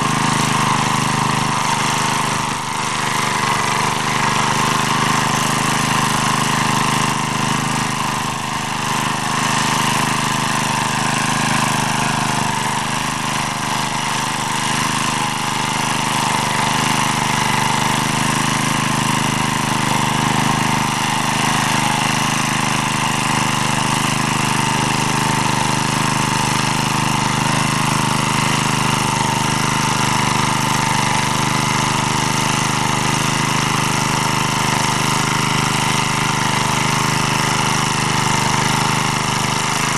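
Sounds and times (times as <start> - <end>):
rotary tiller working soil: 0.0 - 39.9
tractor engine running: 0.0 - 39.9.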